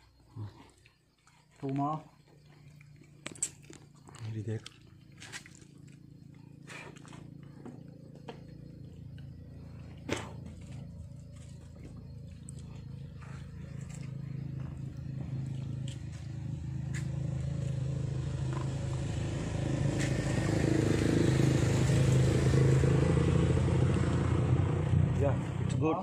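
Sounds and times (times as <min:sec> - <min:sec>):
vehicle engine approaching: 0:00.0 - 0:26.0.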